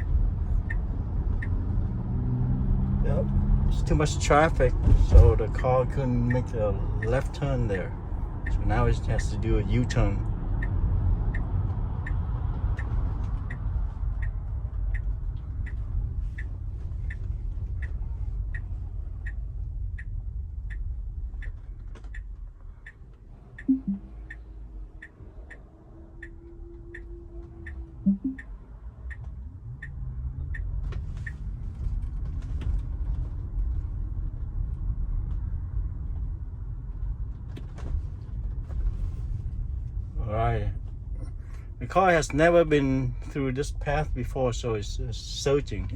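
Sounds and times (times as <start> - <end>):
low road rumble: 0.0 - 45.9
turn signal ticking: 0.0 - 45.9.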